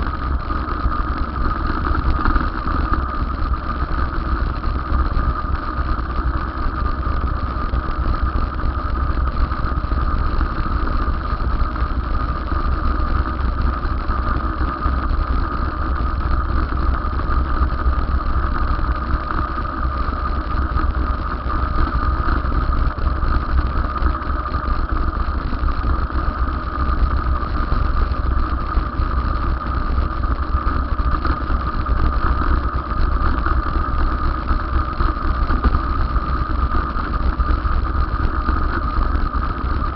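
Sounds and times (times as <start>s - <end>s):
steady high whine: 0.0s - 39.9s
wind rumbling on microphone: 0.0s - 39.9s.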